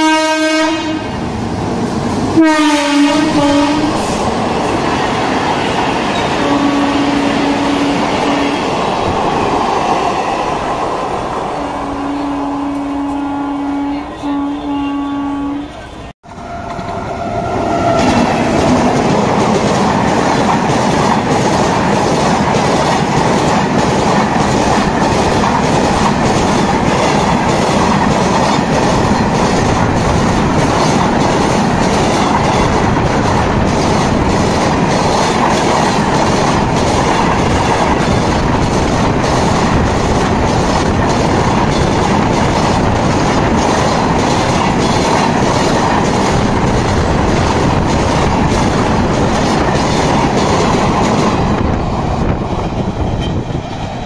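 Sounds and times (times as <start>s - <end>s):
train rumbling on track: 0.0s - 54.0s.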